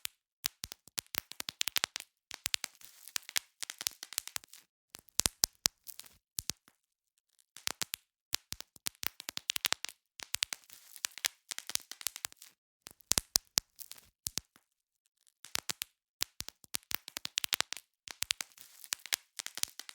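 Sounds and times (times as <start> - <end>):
bubble wrap popping: 0.0 - 6.7, 7.6 - 14.6, 15.4 - 19.9.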